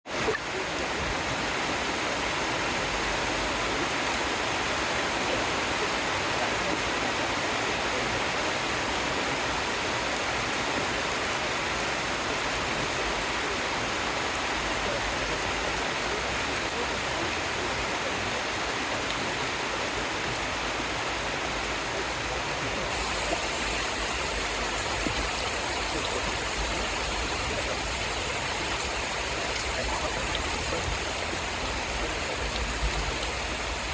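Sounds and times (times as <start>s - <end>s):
rain falling steadily: 0.0s - 33.9s.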